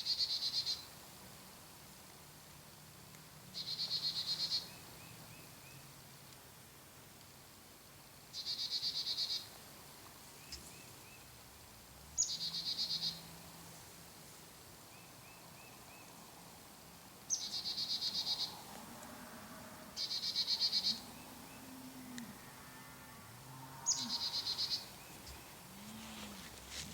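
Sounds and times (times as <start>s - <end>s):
faint woodland background: 0.0s - 26.9s.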